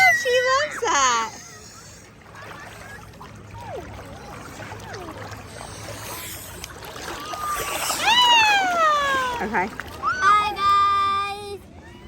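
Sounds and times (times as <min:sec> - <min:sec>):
lake water: 0:00.0 - 0:12.0.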